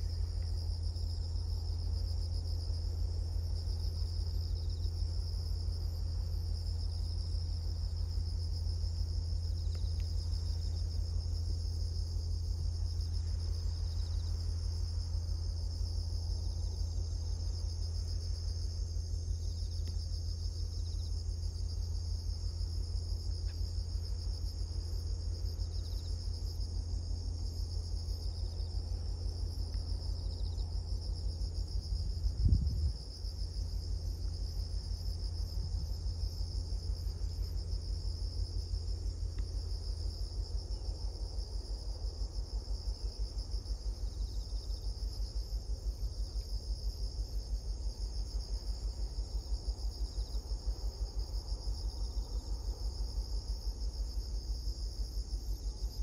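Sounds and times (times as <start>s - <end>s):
insects trilling: 0.0s - 56.0s
low steady rumble: 0.0s - 56.0s.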